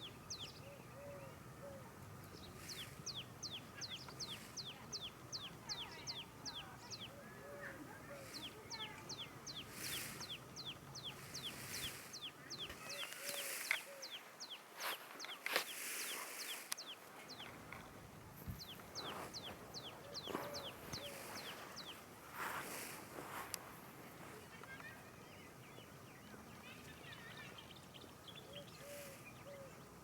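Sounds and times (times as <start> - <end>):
lower clucking bird calls: 0.0 - 23.6, 24.2 - 30.0.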